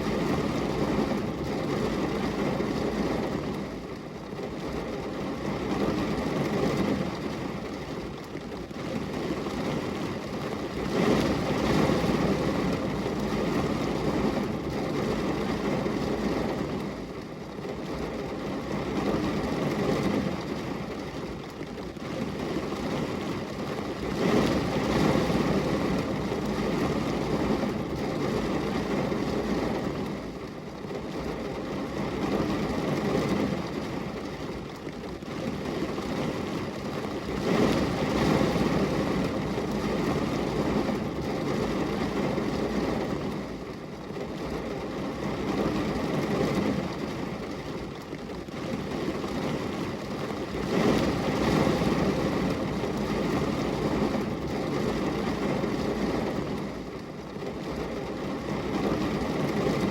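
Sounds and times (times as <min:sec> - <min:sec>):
rain on a glass window: 0:00.0 - 0:59.9.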